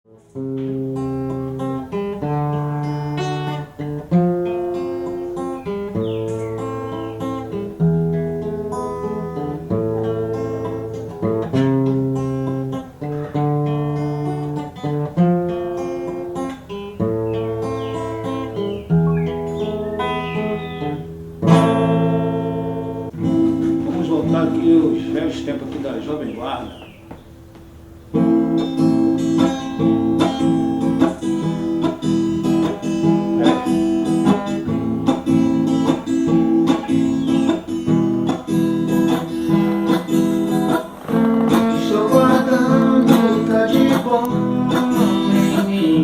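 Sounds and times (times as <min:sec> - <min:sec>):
acoustic guitar chords: 0:00.1 - 0:46.0.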